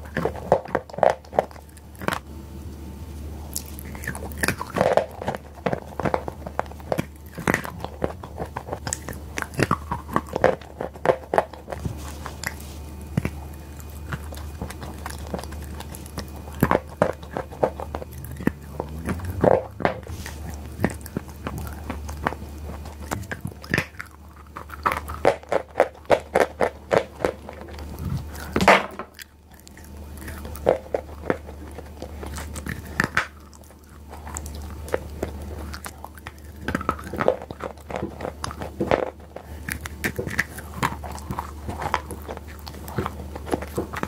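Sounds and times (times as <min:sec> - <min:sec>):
crunchy chewing: 0:00.0 - 0:44.0
steady low hum: 0:00.0 - 0:44.0.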